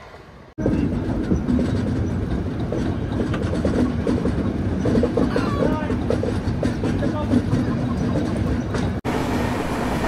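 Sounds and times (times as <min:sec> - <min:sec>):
train wheels rumbling on rails: 0:00.0 - 0:10.0
clickety-clack of rail joints: 0:00.6 - 0:09.0.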